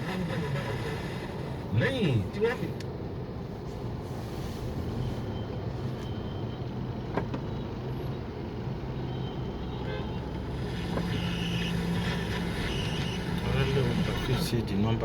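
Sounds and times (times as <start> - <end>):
moving vehicle running noise: 0.0 - 15.0.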